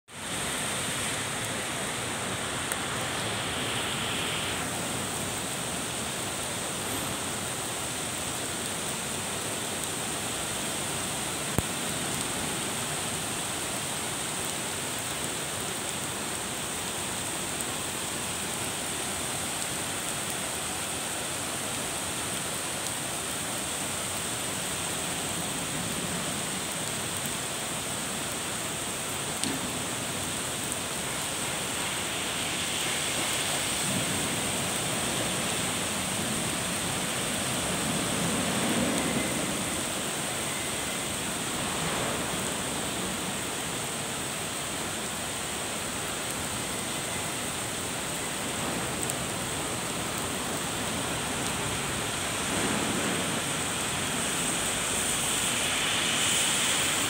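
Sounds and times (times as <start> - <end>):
steady rain falling: 0.1 - 57.0.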